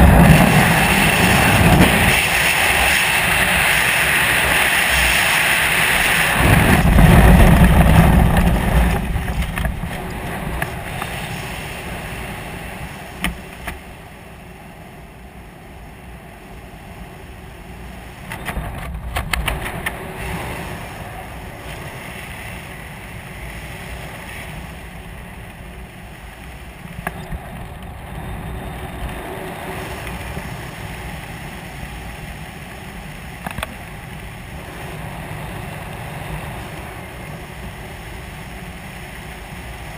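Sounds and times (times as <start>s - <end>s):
wind rushing over helmet: 0.0s - 14.4s, 16.2s - 39.9s.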